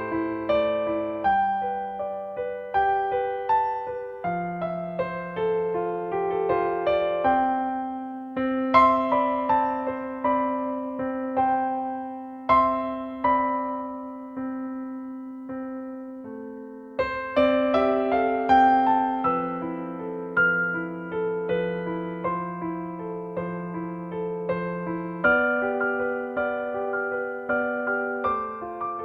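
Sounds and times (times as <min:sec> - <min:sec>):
gentle piano melody: 0:00.0 - 0:29.0.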